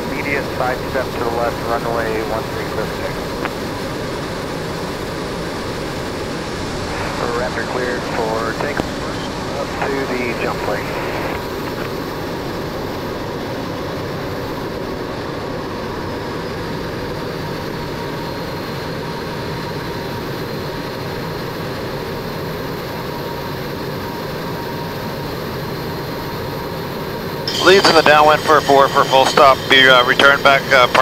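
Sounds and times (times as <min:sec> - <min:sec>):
faint steady whines: 0:00.0 - 0:31.0
jet engine and airflow rush: 0:00.0 - 0:31.0.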